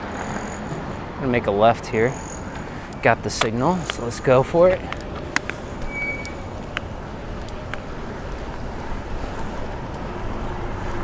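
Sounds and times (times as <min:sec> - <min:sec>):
low motor vehicle hum: 0:00.0 - 0:11.0
road and traffic noise: 0:00.0 - 0:11.0.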